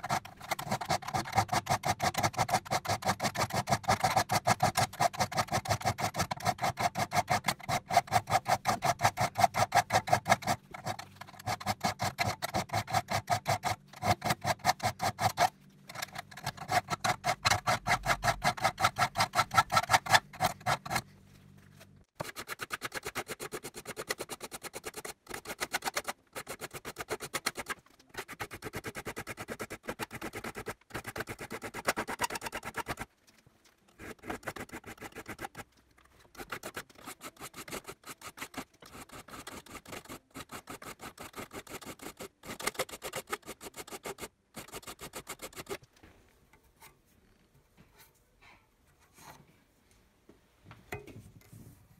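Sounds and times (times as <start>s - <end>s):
file rasping on saw teeth: 0.0s - 21.1s, 22.2s - 33.1s, 34.0s - 35.7s, 36.3s - 45.8s.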